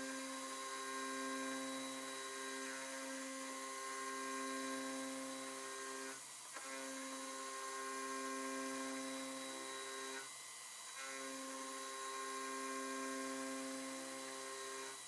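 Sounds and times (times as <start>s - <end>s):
milling machine motor whine: 0.0s - 15.0s.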